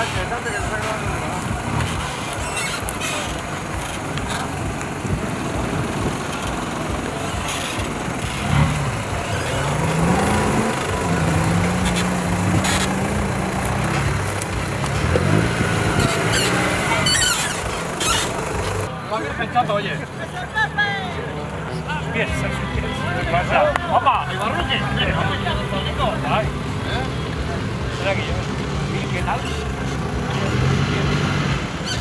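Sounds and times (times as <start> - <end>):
engine revving under load: 0.0 - 18.9, 24.3 - 32.0.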